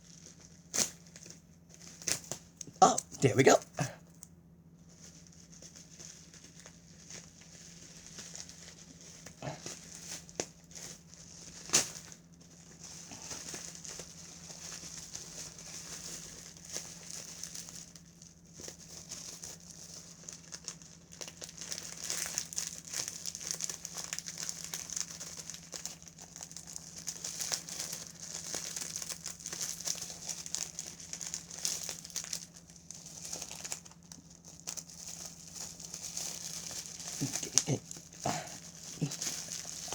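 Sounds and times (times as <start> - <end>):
package wrapping crinkling: 0.0 - 2.7, 4.8 - 39.9.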